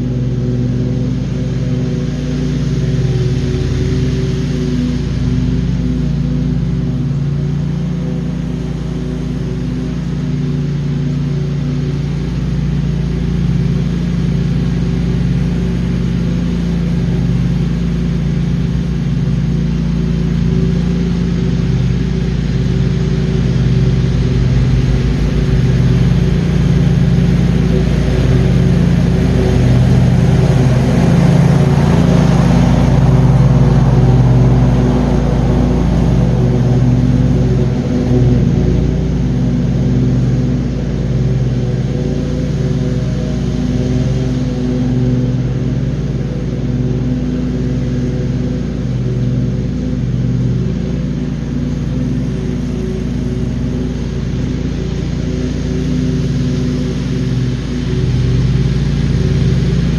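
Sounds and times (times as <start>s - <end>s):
mower engine running: 0.0s - 59.9s.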